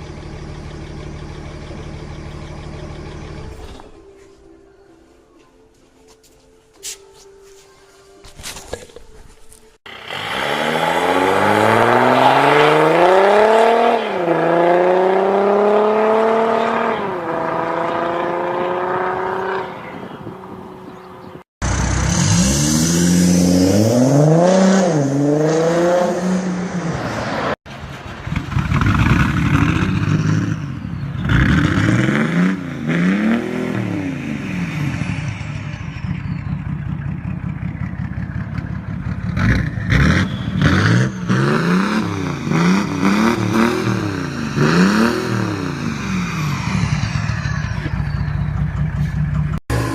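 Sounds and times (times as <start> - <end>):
diesel car engine revving: 0.0 - 4.0, 9.9 - 49.9.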